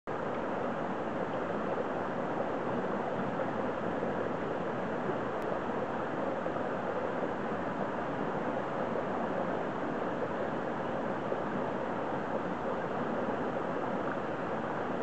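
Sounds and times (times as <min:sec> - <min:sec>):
stream water rushing: 0:00.1 - 0:15.0.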